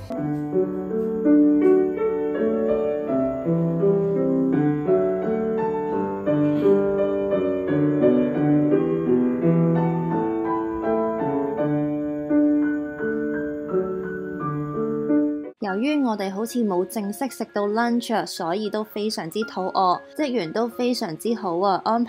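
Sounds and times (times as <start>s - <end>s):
grand piano playing: 0.0s - 22.0s.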